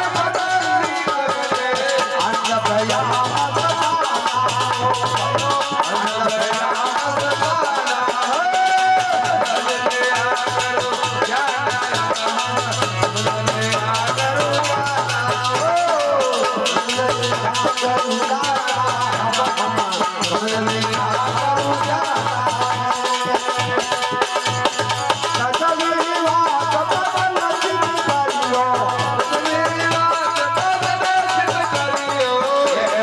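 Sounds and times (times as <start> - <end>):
rattling percussion: 0.0 - 33.0.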